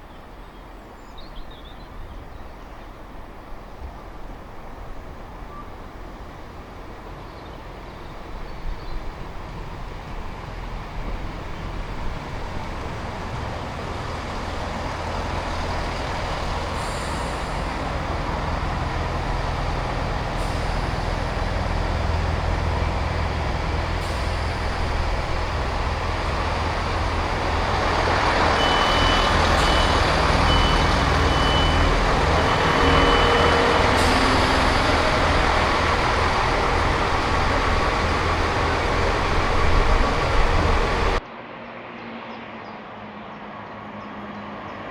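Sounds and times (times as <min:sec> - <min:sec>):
diesel train engine drone: 0:02.0 - 0:44.9
wheel and rail noise: 0:02.4 - 0:44.9.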